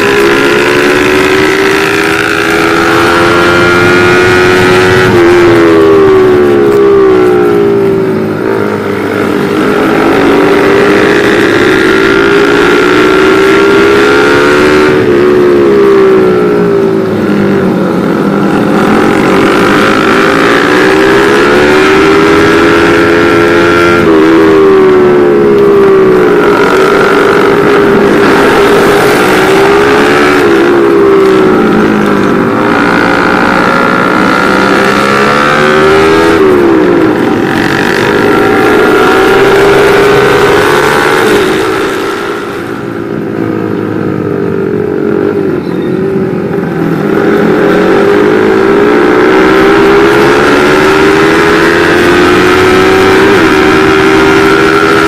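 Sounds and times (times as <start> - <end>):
motorcycle engine revving: 0.0 - 55.0
steady rushing noise: 0.0 - 55.0.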